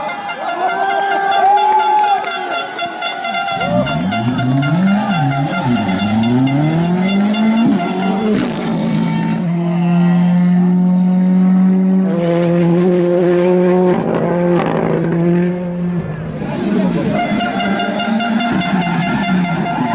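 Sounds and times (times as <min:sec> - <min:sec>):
rally car engine revving: 0:03.5 - 0:19.9.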